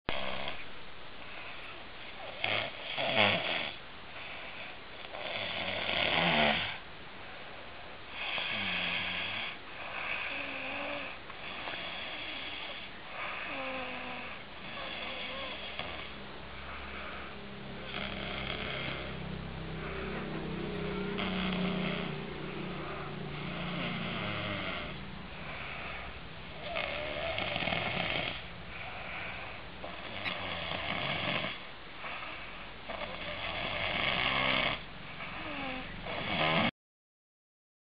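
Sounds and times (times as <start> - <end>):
man snoring: 0.1 - 0.6, 2.2 - 3.8, 5.0 - 6.8, 8.1 - 31.6, 32.9 - 36.7.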